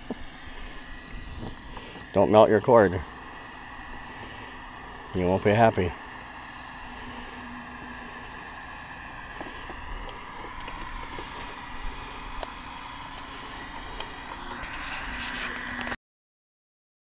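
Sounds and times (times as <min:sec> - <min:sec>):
heat gun running: 0:00.0 - 0:16.0.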